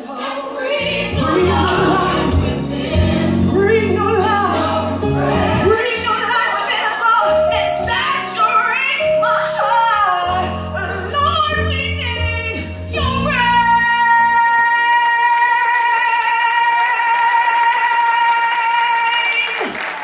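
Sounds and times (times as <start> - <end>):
backing music: 0.0 - 16.4
woman singing gospel: 0.0 - 19.7.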